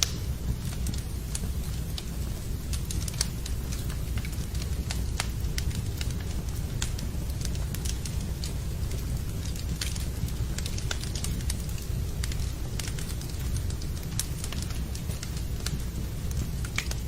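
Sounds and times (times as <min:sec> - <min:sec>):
fire low rumble: 0:00.0 - 0:17.0
wood fire crackling and popping: 0:00.0 - 0:17.0.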